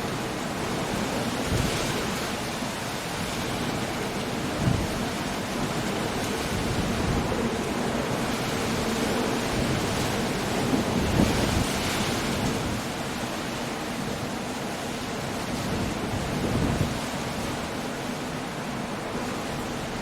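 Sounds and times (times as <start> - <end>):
rain: 0.0 - 20.0
surf rushing: 0.0 - 20.0
waves breaking: 0.0 - 20.0
wind: 0.0 - 20.0.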